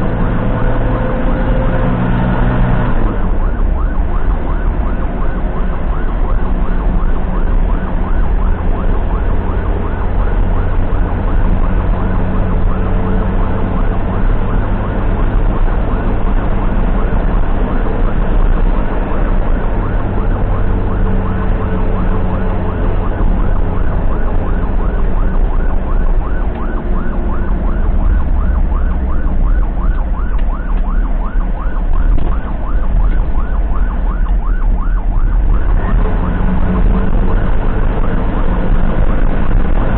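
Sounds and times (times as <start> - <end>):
ambulance siren yelping: 0.0 - 39.9
low rumble of moving vehicle: 0.0 - 39.9.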